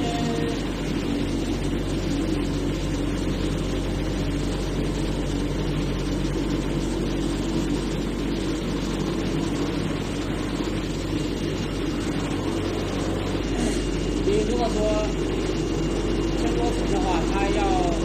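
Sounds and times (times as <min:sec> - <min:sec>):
cutting machine humming and whirring: 0:00.0 - 0:18.0.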